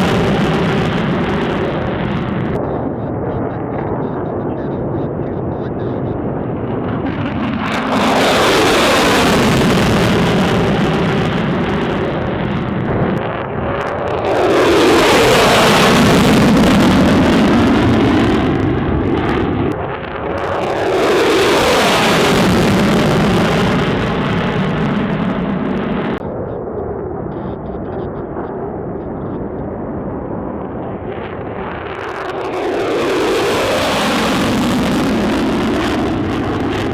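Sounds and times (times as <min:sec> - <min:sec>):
jet aircraft passing low: 0:00.0 - 0:36.9.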